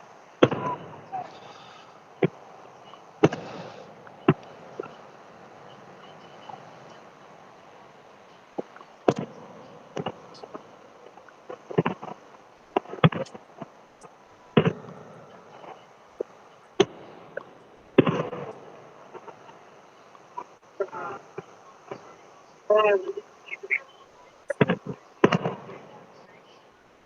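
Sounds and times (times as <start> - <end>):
fireworks crackle: 0.0 - 26.7
fireworks bangs and pops: 0.4 - 22.3, 24.5 - 26.2.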